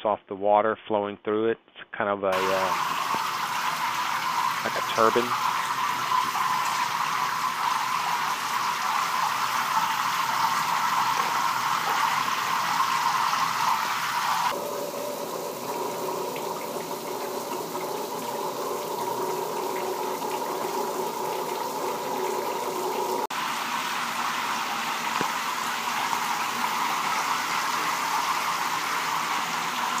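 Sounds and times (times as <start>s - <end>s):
shower water spraying: 2.4s - 30.0s.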